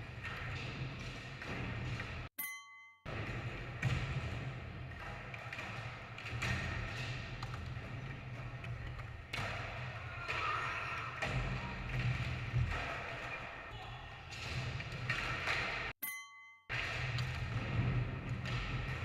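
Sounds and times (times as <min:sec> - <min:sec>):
skateboard clacks and thuds: 0:00.0 - 0:02.3, 0:03.1 - 0:13.7, 0:14.3 - 0:15.9, 0:16.7 - 0:19.0.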